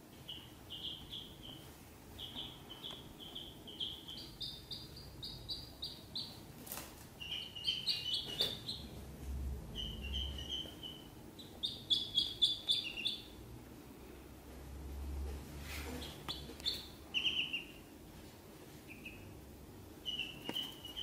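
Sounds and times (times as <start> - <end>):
ducklings peeping: 0.0 - 13.5, 15.9 - 18.0, 18.8 - 21.0.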